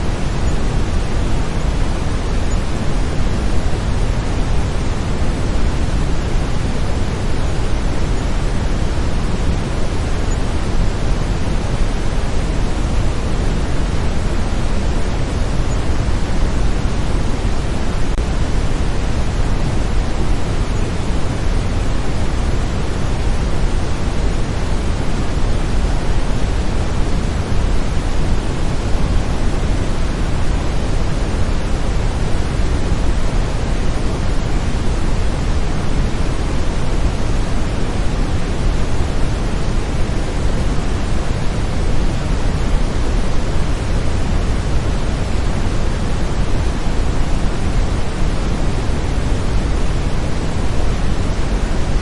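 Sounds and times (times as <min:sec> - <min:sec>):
deep rushing brown noise: 0:00.0 - 0:52.0.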